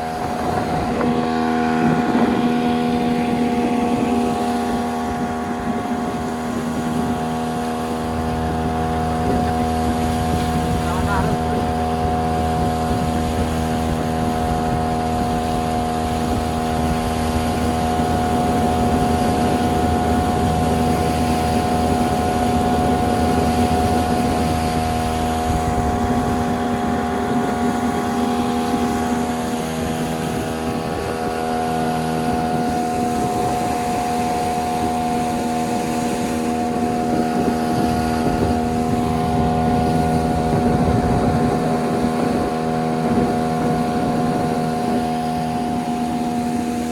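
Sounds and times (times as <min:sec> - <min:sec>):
outboard motor running: 0:00.0 - 0:46.9
wind and water rushing: 0:00.0 - 0:46.9.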